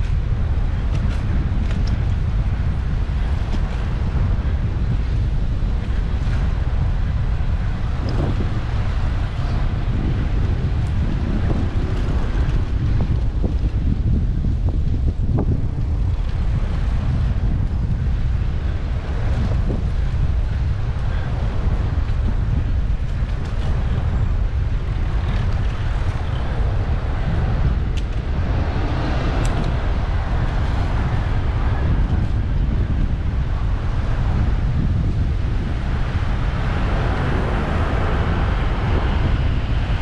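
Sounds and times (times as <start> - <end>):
road and traffic noise: 0.0 - 40.0
wind buffeting microphone: 0.0 - 40.0.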